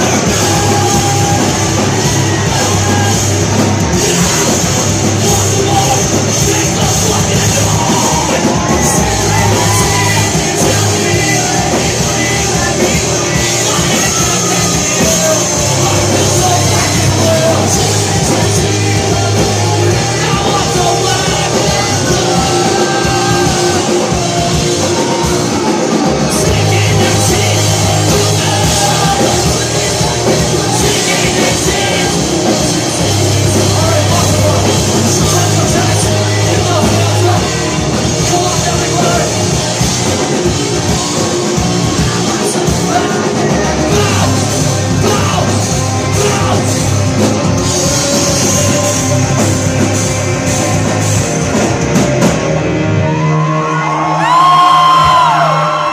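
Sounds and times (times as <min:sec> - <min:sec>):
person singing: 0:00.0 - 0:52.4
rock band playing live: 0:00.0 - 0:55.9.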